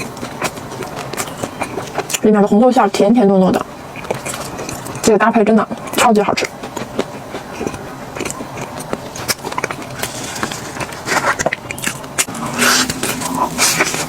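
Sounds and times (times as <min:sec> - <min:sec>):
crunchy chewing of fried food: 0:00.0 - 0:02.3, 0:03.5 - 0:14.0.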